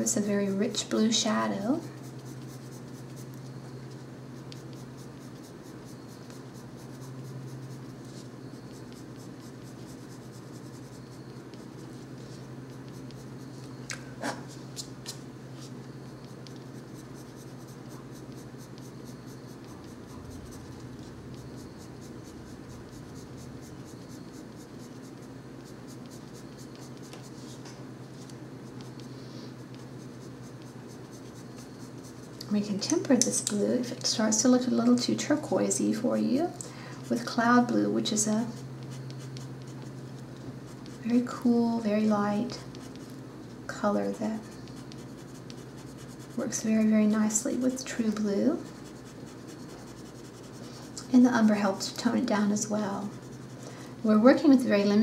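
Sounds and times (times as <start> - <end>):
colored pencil scratching on paper: 0.0 - 13.8, 15.6 - 27.6, 28.2 - 33.2, 37.0 - 43.2, 43.8 - 53.6.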